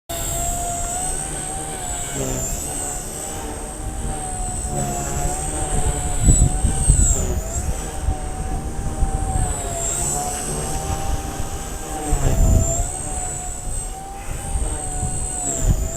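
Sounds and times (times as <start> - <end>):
small electric motor whine: 0.1 - 15.9
wind buffeting microphone: 0.1 - 15.9.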